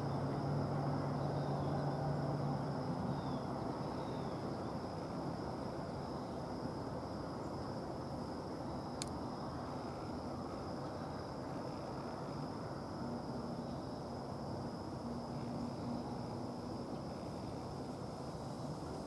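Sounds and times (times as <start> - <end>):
distant diesel locomotive drone: 0.0 - 19.0.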